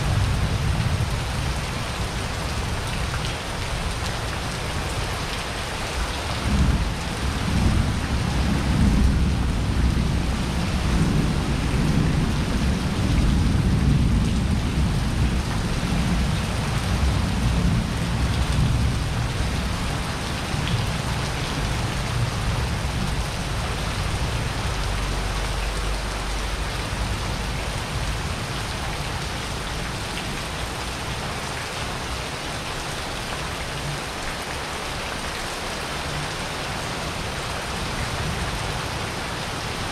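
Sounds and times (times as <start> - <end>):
rain pouring: 0.0 - 39.9.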